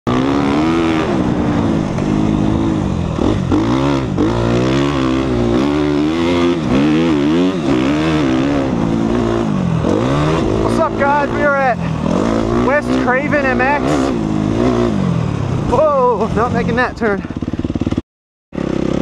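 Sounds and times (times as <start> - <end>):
dirt bike engine revving: 0.1 - 18.0, 18.6 - 19.0.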